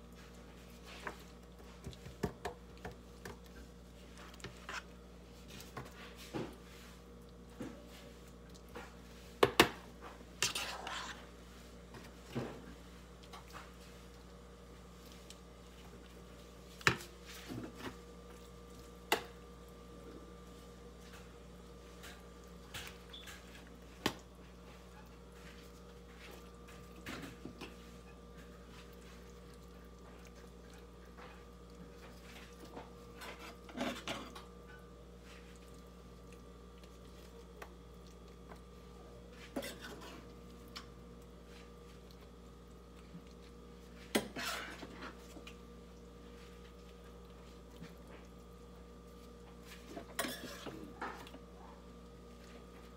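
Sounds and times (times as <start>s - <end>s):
electrical hum: 0.0s - 52.9s.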